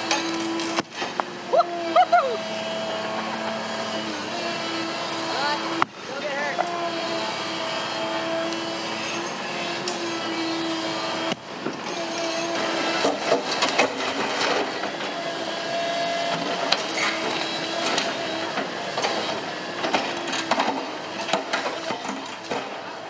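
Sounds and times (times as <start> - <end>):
excavator engine hum: 0.0 - 23.0.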